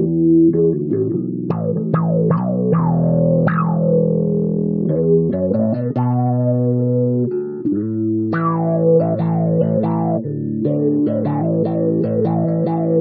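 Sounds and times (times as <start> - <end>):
overdriven bass guitar notes: 0.0 - 13.0.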